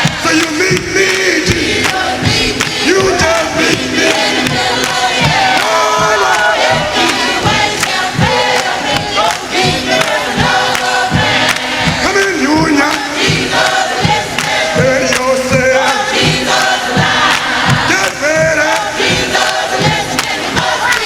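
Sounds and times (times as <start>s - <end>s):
singing voices: 0.0s - 21.0s
steady drum beat: 0.0s - 21.0s.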